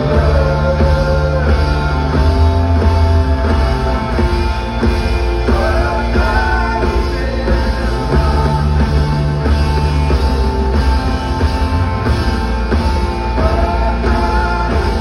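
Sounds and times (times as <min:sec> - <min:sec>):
heavy steady bass: 0:00.0 - 0:15.0
live band music: 0:00.0 - 0:15.0.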